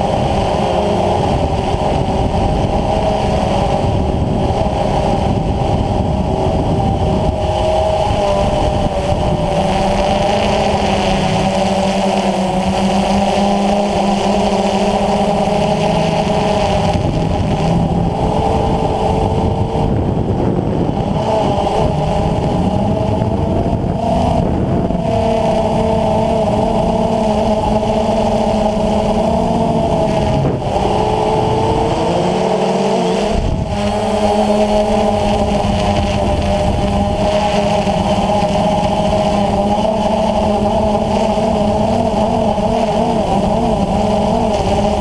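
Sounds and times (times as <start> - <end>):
drone propellers whining: 0.0 - 45.0
wind rumble: 0.0 - 45.0.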